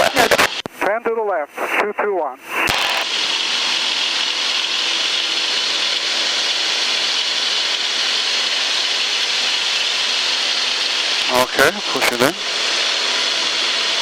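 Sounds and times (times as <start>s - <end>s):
airplane engine and propeller noise: 0.0s - 14.0s.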